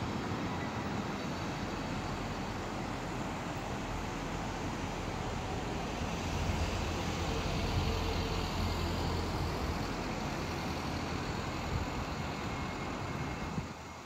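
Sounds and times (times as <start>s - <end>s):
road traffic rumble: 0.0s - 13.8s.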